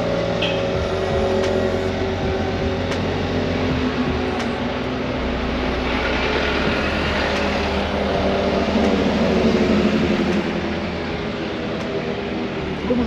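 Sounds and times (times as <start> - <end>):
traffic engines running: 0.0 - 13.0
vehicle passing close: 0.0 - 13.0.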